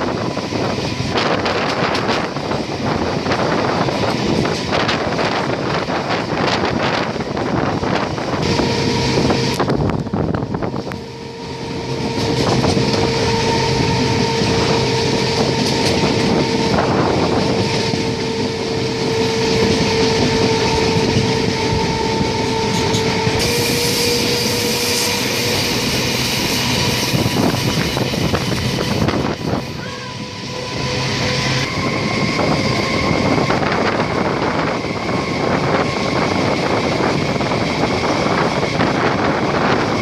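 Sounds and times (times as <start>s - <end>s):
train rolling rumble: 0.0s - 40.0s.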